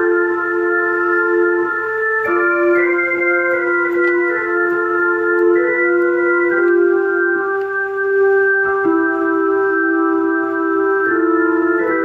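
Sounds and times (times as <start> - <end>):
organ chords: 0.0 - 12.0.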